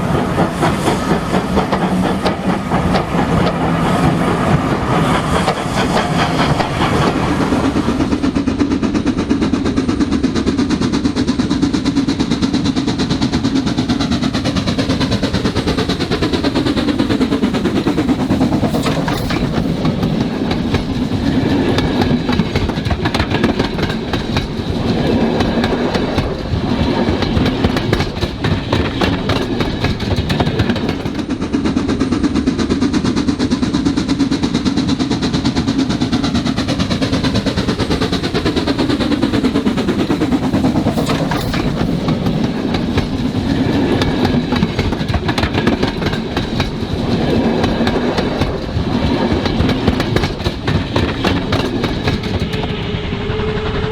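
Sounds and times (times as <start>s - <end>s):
model train wheels clicking: 4.9s - 52.9s.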